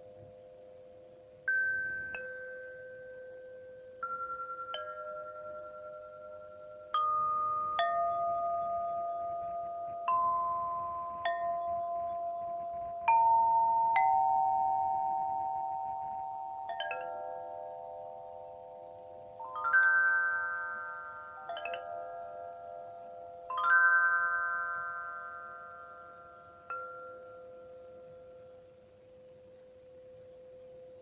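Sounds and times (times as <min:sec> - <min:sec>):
metallophone notes ringing: 0:00.0 - 0:31.0.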